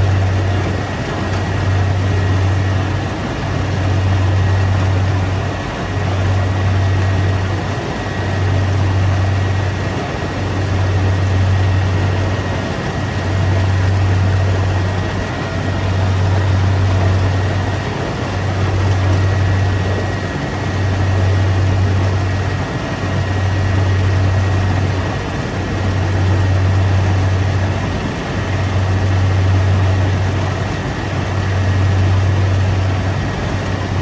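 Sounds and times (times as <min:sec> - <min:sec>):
combine harvester engine hum: 0:00.0 - 0:34.0
thin steady whine: 0:00.0 - 0:34.0.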